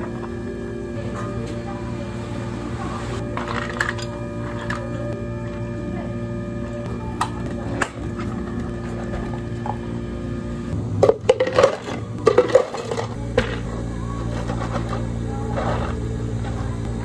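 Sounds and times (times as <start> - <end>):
equipment humming: 0.0 - 17.0.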